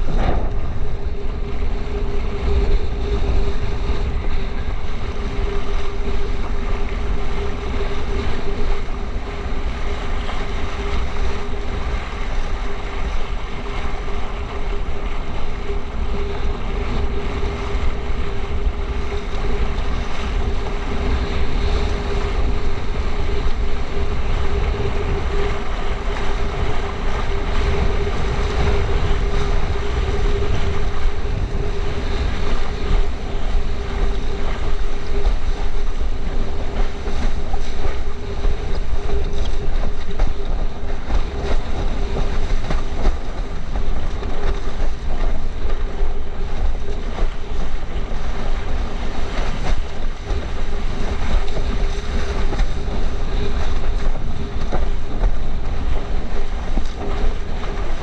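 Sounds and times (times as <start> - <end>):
steady hum: 0.0 - 58.0
water rushing and slapping: 0.0 - 58.0
wind buffeting the microphone: 0.0 - 58.0.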